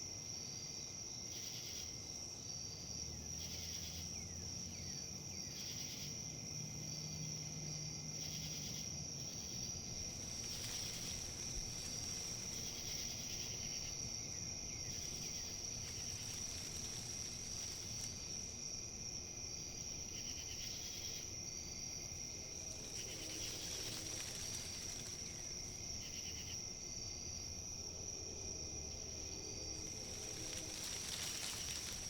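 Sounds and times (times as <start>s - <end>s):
insect trill: 0.0s - 32.0s
wind rustling leaves: 1.8s - 32.0s.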